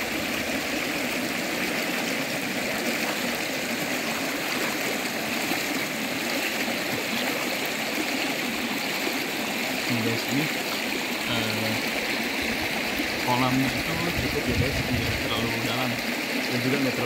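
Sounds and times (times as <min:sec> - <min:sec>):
water flowing over rocks: 0:00.0 - 0:17.0.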